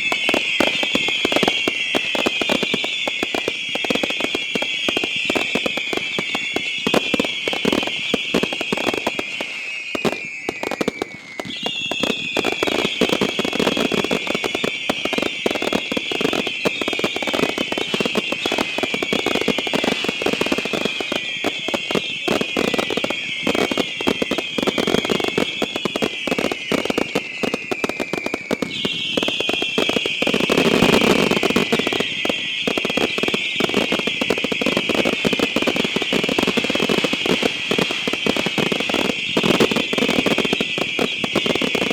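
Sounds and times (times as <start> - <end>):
fireworks crackling: 0.0 - 41.9
fireworks whistling: 0.0 - 41.9.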